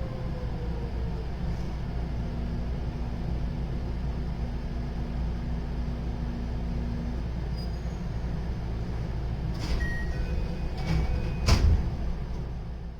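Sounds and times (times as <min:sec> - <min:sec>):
electric train rumbling: 0:00.0 - 0:12.9
train drive hum: 0:00.0 - 0:12.9.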